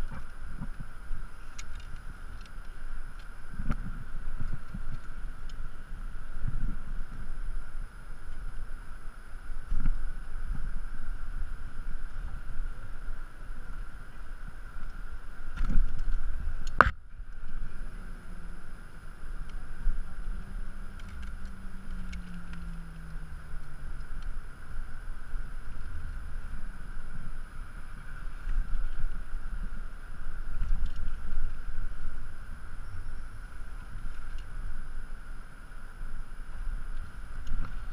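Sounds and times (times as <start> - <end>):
wind buffeting the microphone: 0.0 - 37.9.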